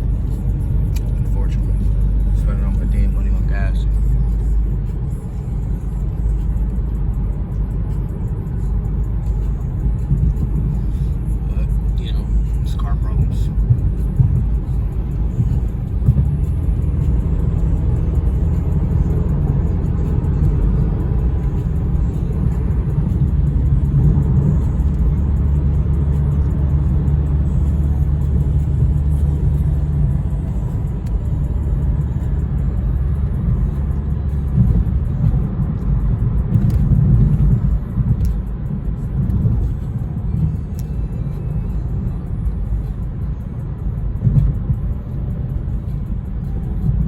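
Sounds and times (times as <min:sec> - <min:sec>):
car engine and tyre drone: 0:00.0 - 0:47.0.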